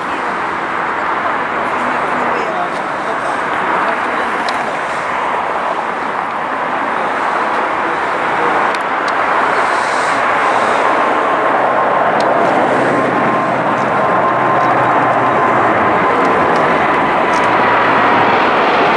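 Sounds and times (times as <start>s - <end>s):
jet engine roar: 0.0s - 18.9s
steady high tone: 0.0s - 18.9s.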